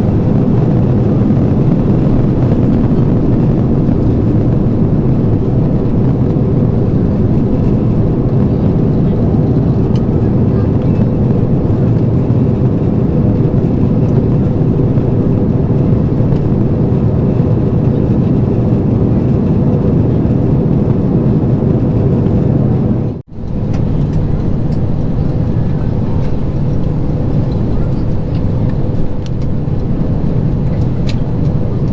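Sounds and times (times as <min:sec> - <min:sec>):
jet engine cabin noise: 0:00.0 - 0:31.9.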